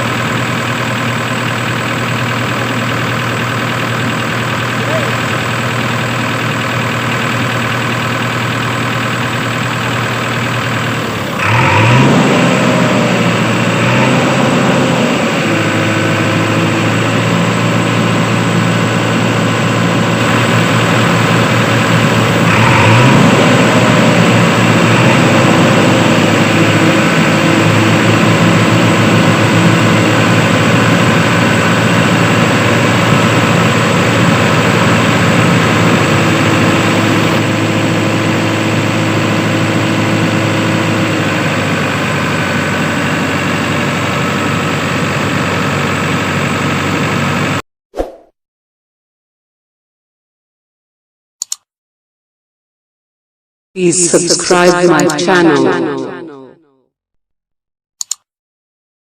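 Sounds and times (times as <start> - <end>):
tractor engine running and revving: 0.0 - 47.6, 58.0 - 58.3.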